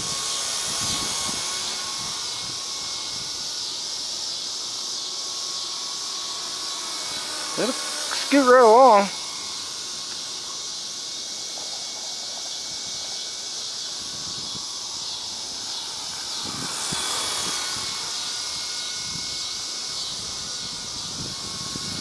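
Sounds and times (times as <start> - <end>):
helicopter rotors whirring: 0.0 - 22.0.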